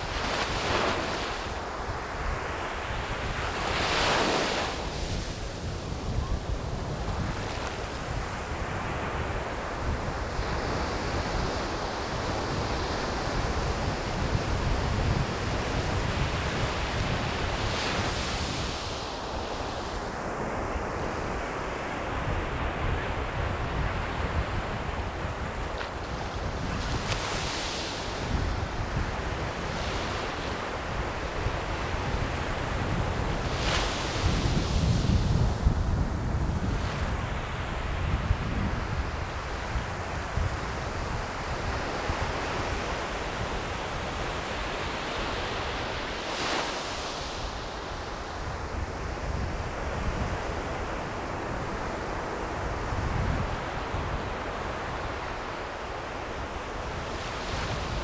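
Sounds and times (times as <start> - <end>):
wind gusts rumbling on microphone: 0.0 - 18.9, 19.7 - 46.1, 47.7 - 55.2, 55.8 - 58.0
surf breaking on a beach: 0.0 - 58.0.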